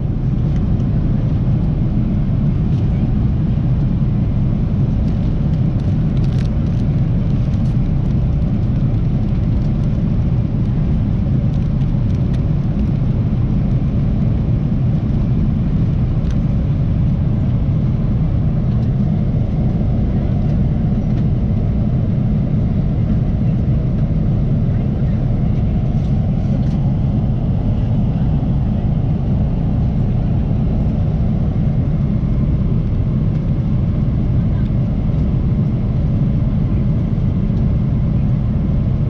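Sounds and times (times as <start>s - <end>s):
aircraft cabin rumble: 0.0s - 39.0s.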